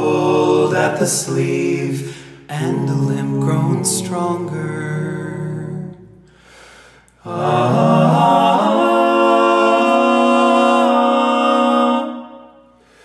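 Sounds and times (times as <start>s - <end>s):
voices singing held chord: 0.0s - 6.3s, 7.1s - 13.0s.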